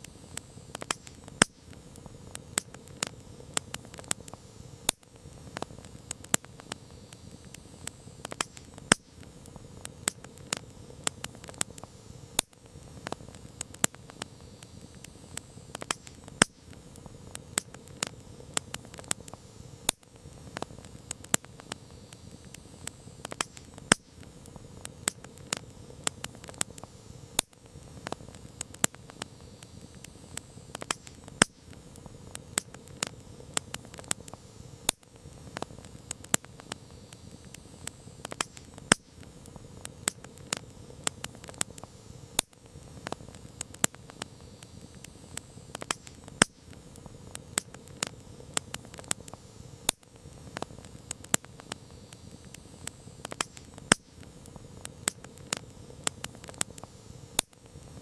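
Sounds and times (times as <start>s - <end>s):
campfire crackling and popping: 0.0s - 58.0s
low rush of flames: 0.0s - 58.0s.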